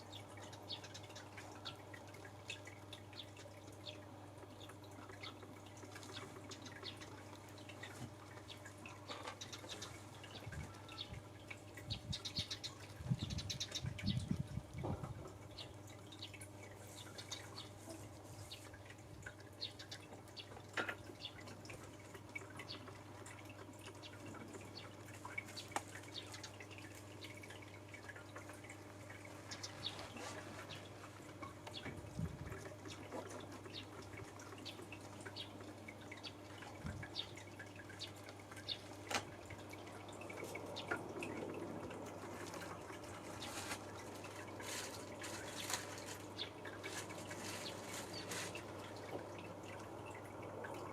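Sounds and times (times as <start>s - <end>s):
sparrows chirping: 0.0s - 14.5s, 15.5s - 18.8s, 19.5s - 21.6s, 22.4s - 39.0s, 42.4s - 50.2s
low steady hum: 0.0s - 50.9s.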